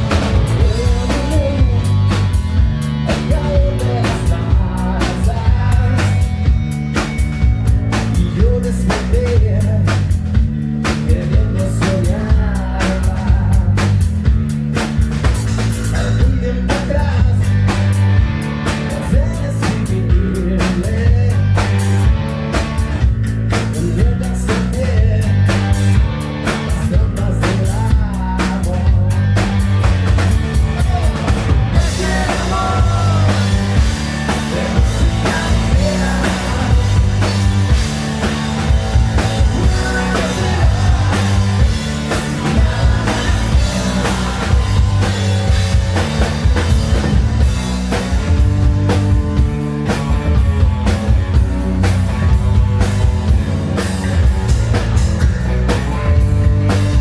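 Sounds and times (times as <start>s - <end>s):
bass: 0.0s - 57.0s
drum kit beat: 0.0s - 57.0s
hard rock band playing: 0.0s - 57.0s.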